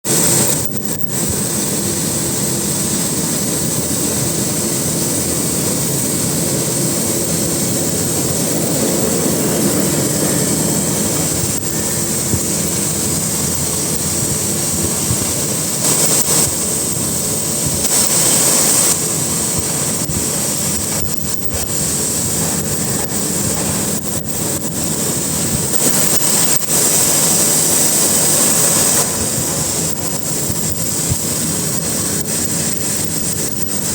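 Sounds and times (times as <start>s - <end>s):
cutting torch hissing: 0.1s - 33.9s.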